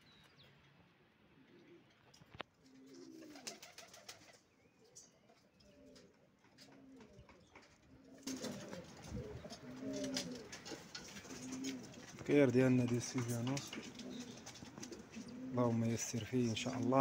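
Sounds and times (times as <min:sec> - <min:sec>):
pigeons cooing: 0:01.2 - 0:17.0.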